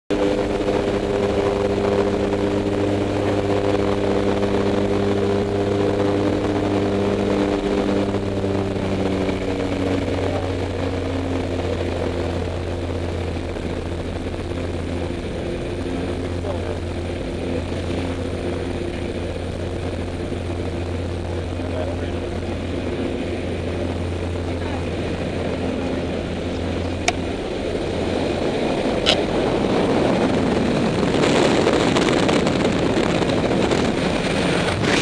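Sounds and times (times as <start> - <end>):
propeller engines droning: 0.1 - 35.0.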